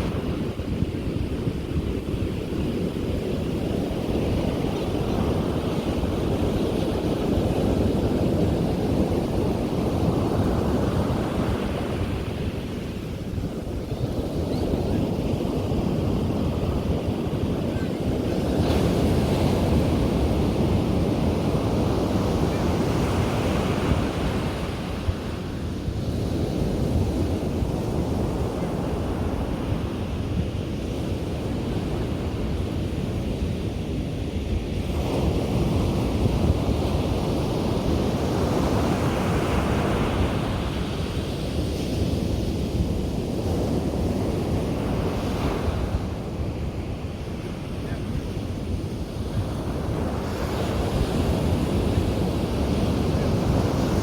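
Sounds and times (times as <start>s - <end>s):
ocean surf breaking on beach: 0.0s - 54.0s
wind buffeting microphone: 0.0s - 54.0s.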